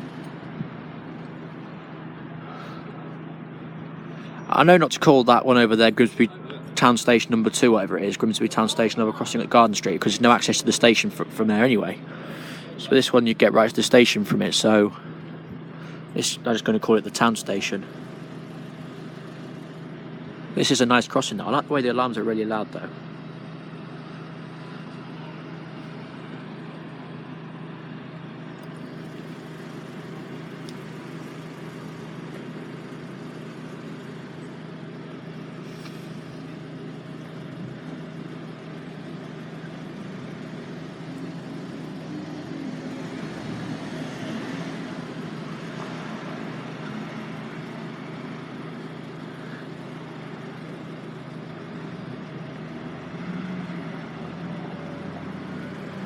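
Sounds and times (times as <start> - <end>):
vehicle engine hum: 0.0 - 56.0.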